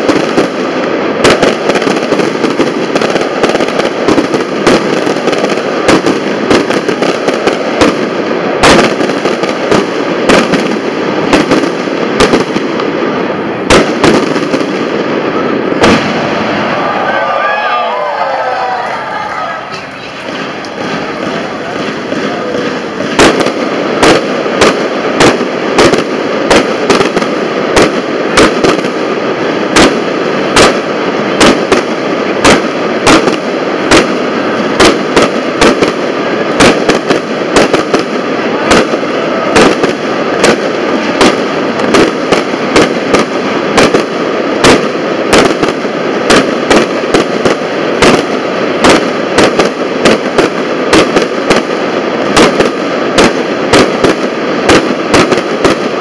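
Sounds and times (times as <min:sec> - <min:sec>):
fireworks bangs: 0:00.0 - 0:56.0
steady background noise: 0:00.0 - 0:56.0.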